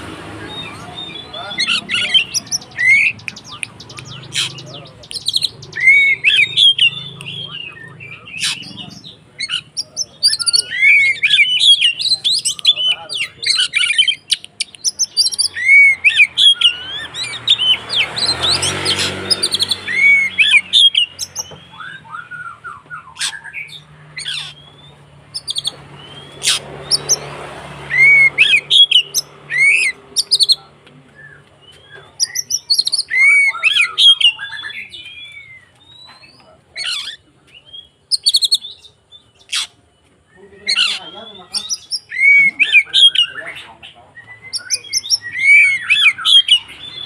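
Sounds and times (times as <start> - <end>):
bird singing whistles and chirps: 0.4 - 47.0.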